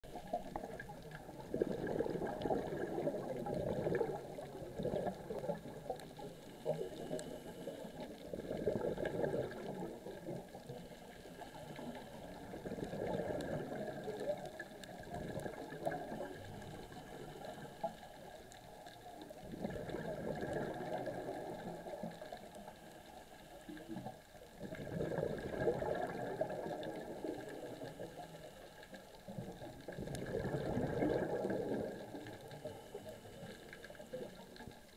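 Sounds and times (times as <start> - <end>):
underwater breath bubbles: 0.0 - 34.9.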